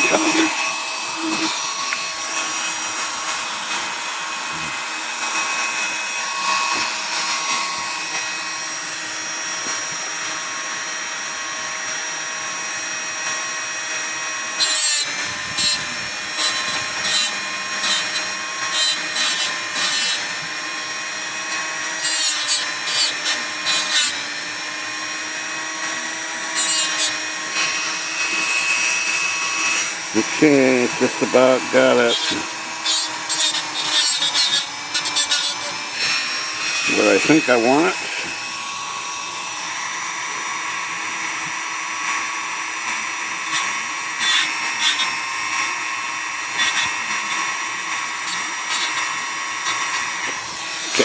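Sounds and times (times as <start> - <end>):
bit grinding bursts: 0.0 - 51.0
rotary tool whining: 0.0 - 51.0.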